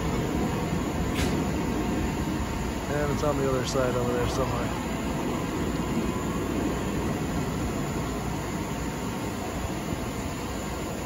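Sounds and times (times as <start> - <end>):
distant roller coaster rumble: 0.0 - 11.0.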